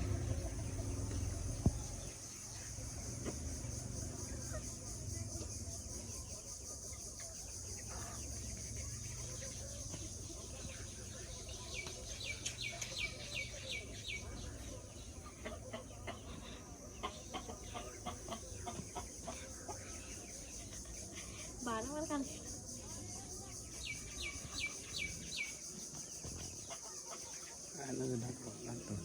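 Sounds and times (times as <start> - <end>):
chickens calling: 0.0 - 29.0.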